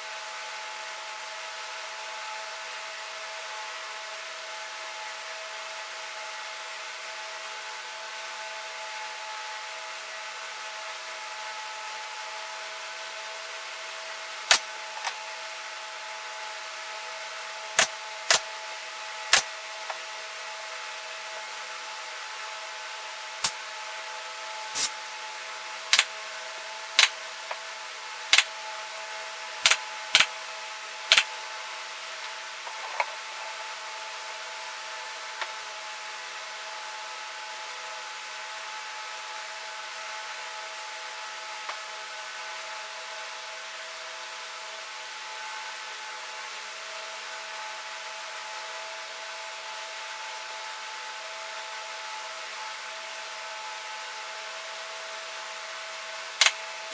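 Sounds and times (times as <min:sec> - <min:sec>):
steady hum with fixed tones: 0:00.0 - 0:56.9.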